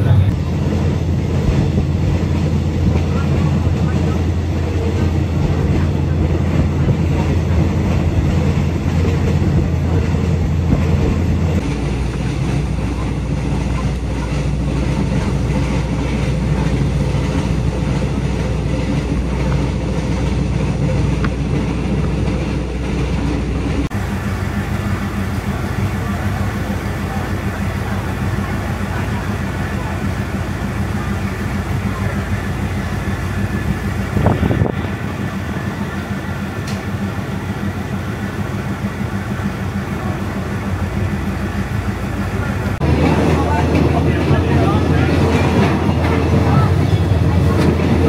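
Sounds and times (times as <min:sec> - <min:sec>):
carriage rumble: 0:00.0 - 0:48.0
train engine hum: 0:00.0 - 0:48.0.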